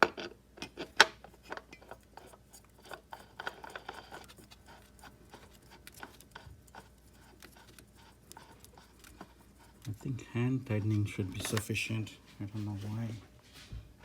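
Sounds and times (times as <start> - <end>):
clicks and scraping of filter parts: 0.0 - 12.0.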